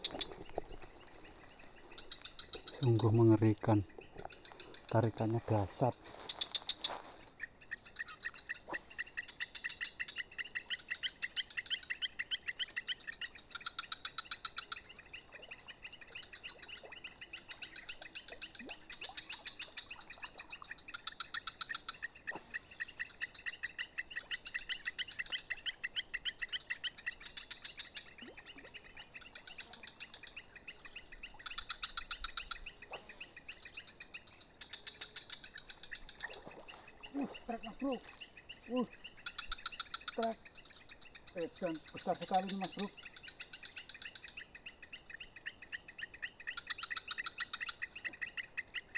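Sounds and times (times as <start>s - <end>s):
faint ticks: 0.0s - 5.0s, 8.0s - 48.9s
insects shrilling and chirping: 0.0s - 48.9s.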